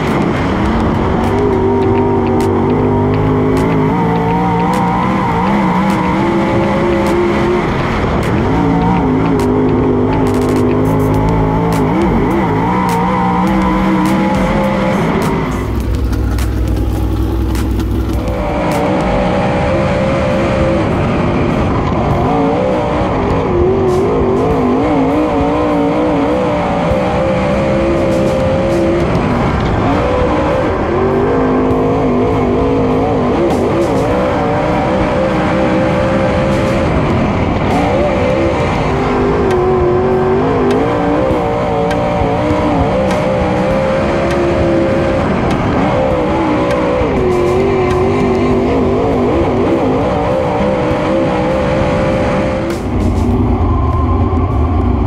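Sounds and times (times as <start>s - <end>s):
race car engine at speed: 0.0s - 55.0s.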